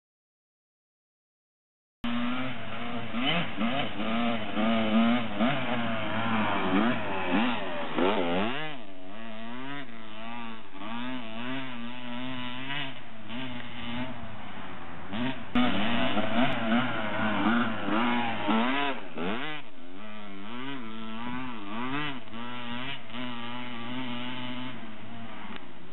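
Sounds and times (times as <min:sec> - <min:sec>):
dirt bike engine revving: 0:02.0 - 0:25.9.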